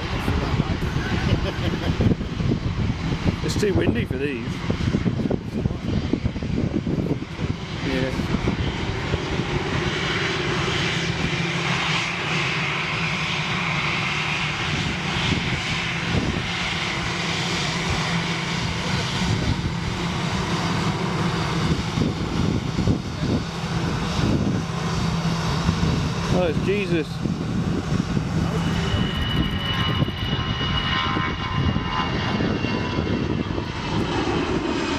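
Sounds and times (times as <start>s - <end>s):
jet engines running: 0.0s - 34.9s
wind buffeting microphone: 0.0s - 34.9s.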